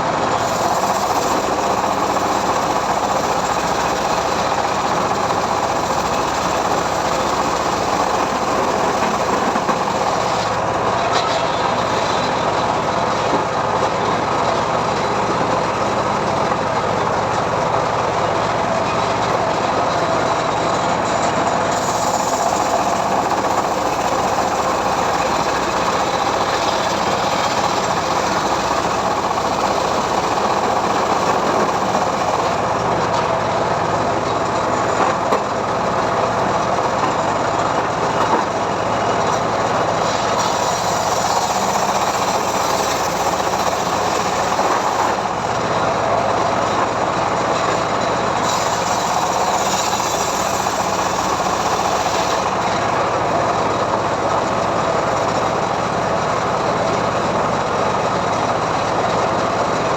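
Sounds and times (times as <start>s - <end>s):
engine-driven sawmill sawing wood: 0.0s - 59.9s.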